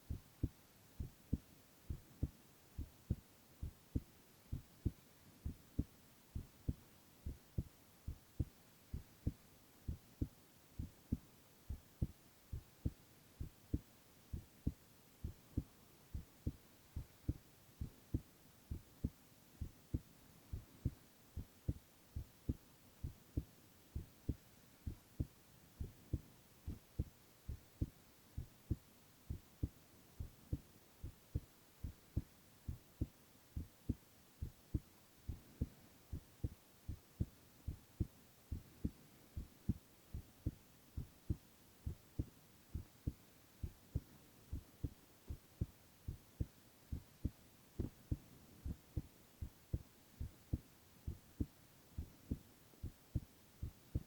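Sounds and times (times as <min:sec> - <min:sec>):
faint hiss: 0:00.0 - 0:54.0
human heartbeat: 0:00.0 - 0:54.0.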